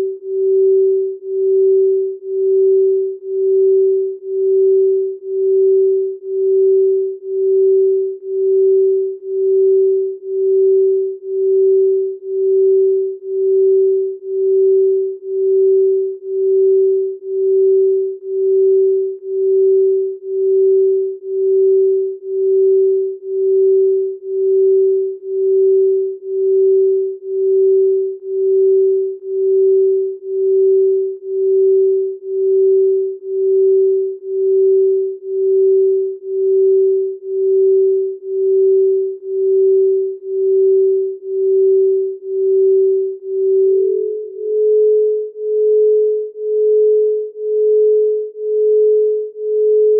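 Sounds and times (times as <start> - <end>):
pulsing sine tone: 0.0 - 49.9.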